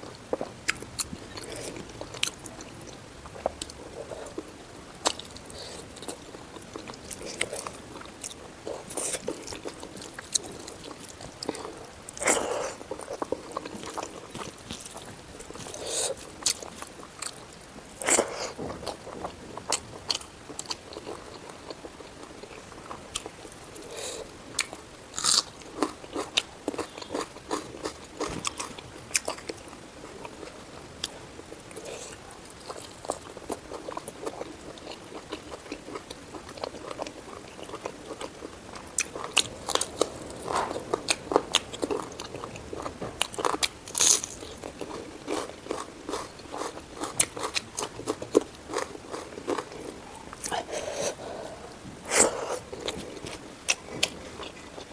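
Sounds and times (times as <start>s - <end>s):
person chewing with mouth smacks: 0.0s - 54.9s.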